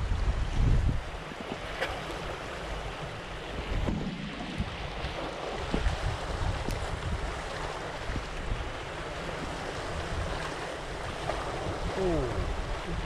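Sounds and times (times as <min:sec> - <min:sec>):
sea waves washing on concrete: 0:00.0 - 0:13.0
wind rumbling on microphone: 0:00.0 - 0:13.0.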